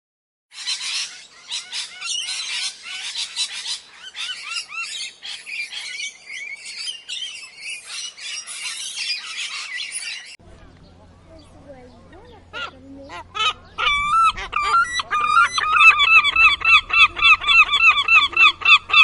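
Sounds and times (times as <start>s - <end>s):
many birds chirping and squawking: 0.5s - 19.0s.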